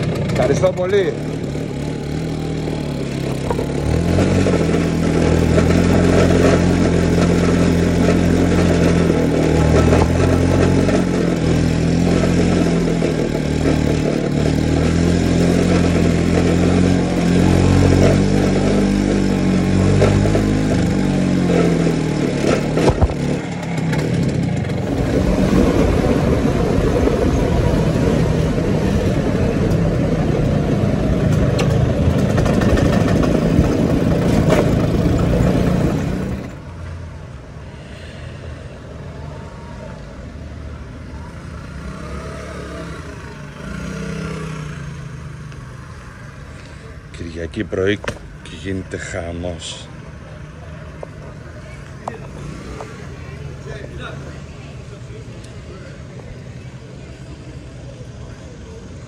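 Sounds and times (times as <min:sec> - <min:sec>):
scooter engine revving: 0:00.0 - 0:36.8, 0:41.0 - 0:49.1, 0:49.9 - 0:59.0
wind and road noise: 0:00.0 - 0:59.0.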